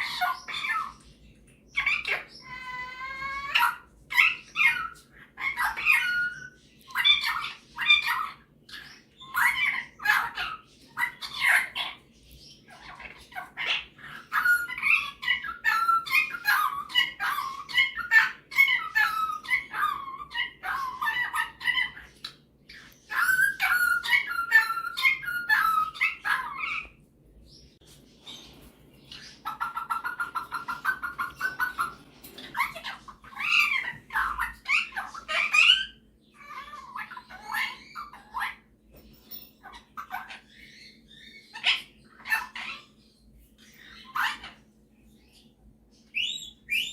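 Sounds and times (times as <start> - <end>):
parrot chattering and warbling: 0.0 - 27.2, 27.8 - 46.9.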